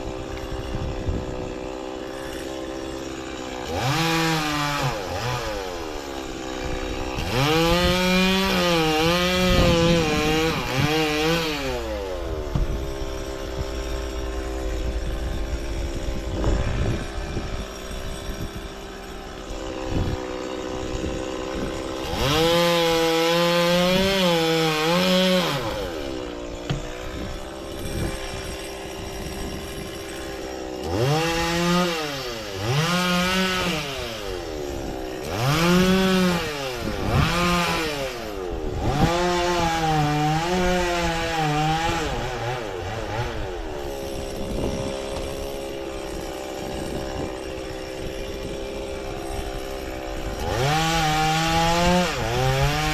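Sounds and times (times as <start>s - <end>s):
chainsaw revving and idling: 0.0s - 52.9s.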